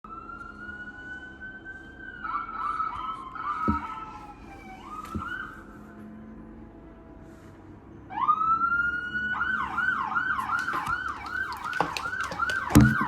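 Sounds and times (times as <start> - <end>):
emergency vehicle sirens wailing: 0.0 - 13.0.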